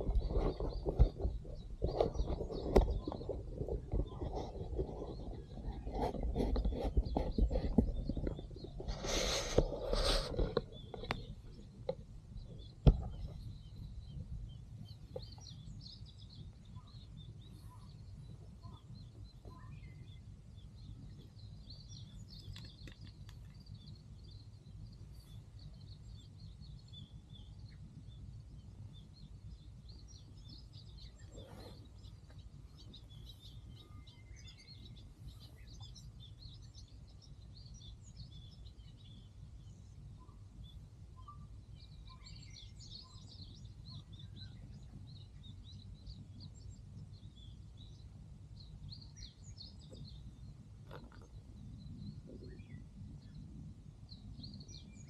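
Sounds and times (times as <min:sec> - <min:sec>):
low outdoor rumble: 0:00.0 - 0:55.0
small birds chirping: 0:00.0 - 0:55.0.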